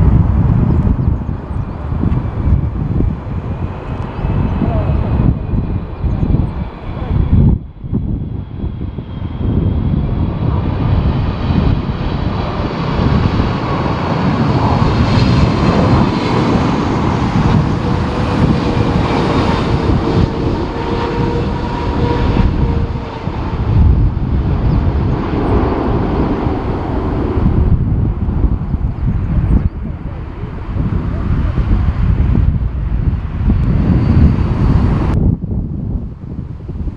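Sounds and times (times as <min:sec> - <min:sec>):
jet engines whining: 0:00.0 - 0:35.2
heavy rumble: 0:00.0 - 0:36.9
wind buffeting microphone: 0:00.0 - 0:36.9.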